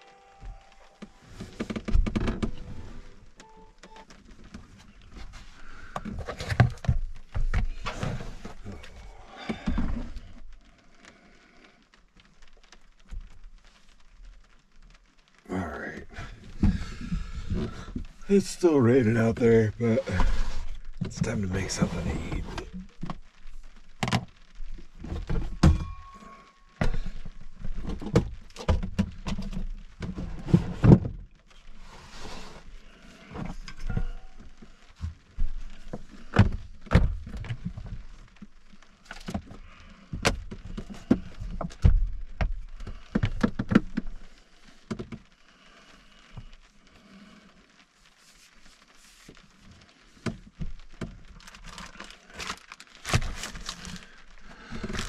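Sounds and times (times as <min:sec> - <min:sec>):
rustling food packages: 0:00.5 - 0:15.4, 0:16.0 - 0:55.0.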